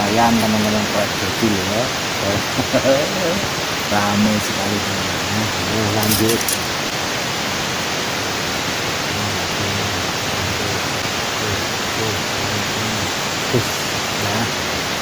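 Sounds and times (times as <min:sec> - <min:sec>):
rushing flowing water: 0:00.0 - 0:15.0.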